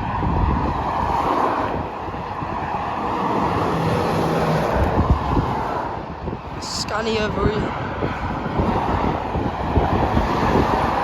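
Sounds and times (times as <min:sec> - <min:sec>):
motorway traffic rushing: 0:00.0 - 0:11.0
wind buffeting microphone: 0:00.0 - 0:11.0.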